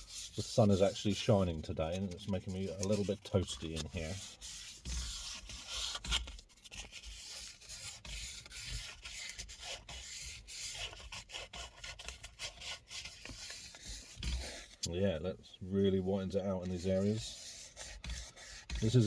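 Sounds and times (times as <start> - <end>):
sandpaper rubbing on leather: 0.0 - 14.9, 16.2 - 19.0.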